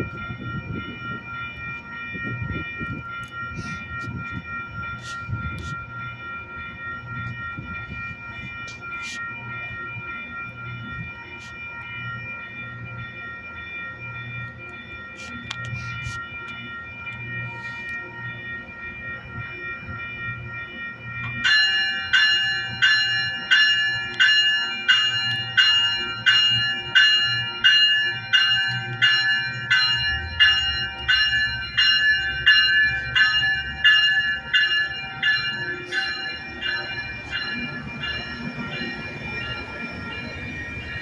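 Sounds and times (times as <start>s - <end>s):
low rumble of passing train: 0.0s - 15.1s, 16.3s - 41.0s
railway warning bell ringing: 0.0s - 41.0s
steady high chord: 0.1s - 41.0s.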